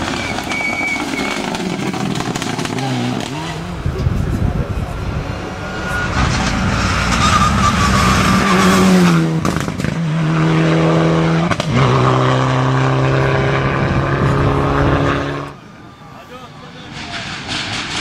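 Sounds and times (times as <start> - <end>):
rally car engine passing: 0.0 - 15.9.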